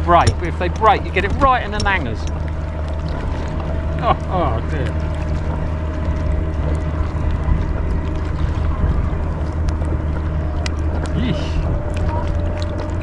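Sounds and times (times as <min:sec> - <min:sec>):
motorboat engine droning: 0:00.0 - 0:13.0
water sloshing: 0:00.0 - 0:13.0.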